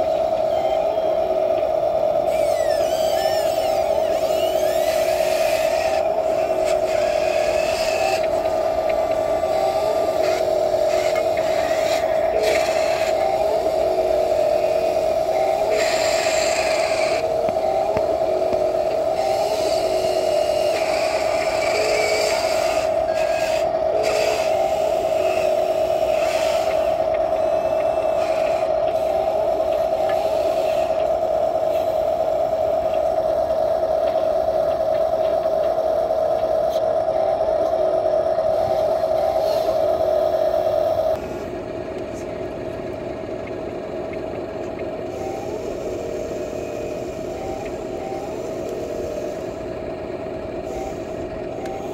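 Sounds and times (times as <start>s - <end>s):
electric motors whining: 0.0s - 51.9s
lower motor whines: 0.0s - 51.9s.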